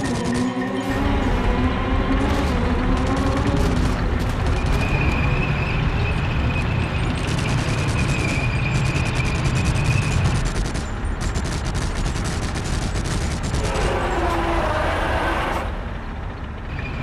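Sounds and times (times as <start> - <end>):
heavy engine rumble: 0.0 - 17.0
tank tracks clattering: 0.0 - 17.0.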